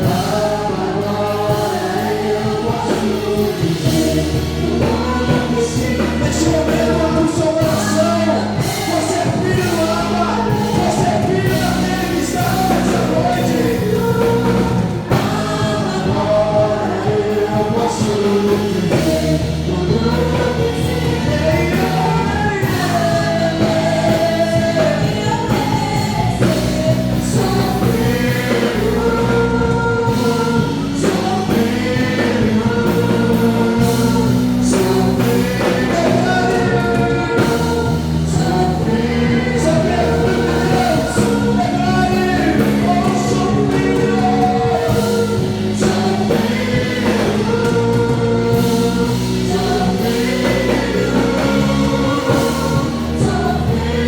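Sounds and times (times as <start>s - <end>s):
praise band playing: 0.0s - 54.0s
voices singing long notes: 0.0s - 54.0s.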